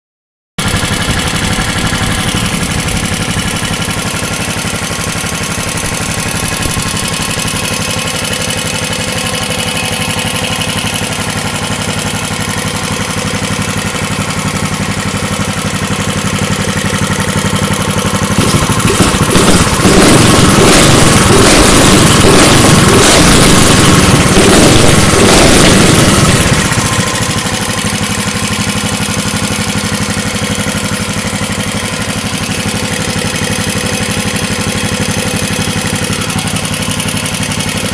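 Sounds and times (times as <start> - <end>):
kart engine idling and revving: 0.6 - 37.9.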